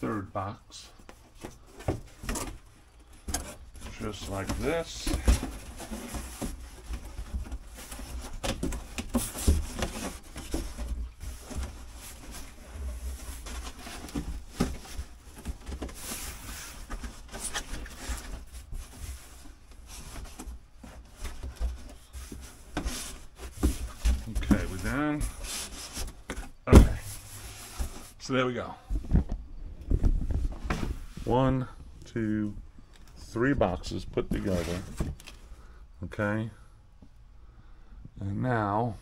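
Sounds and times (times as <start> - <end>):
cardboard scraping and rustling: 1.0 - 28.2, 28.9 - 31.6, 33.2 - 35.4.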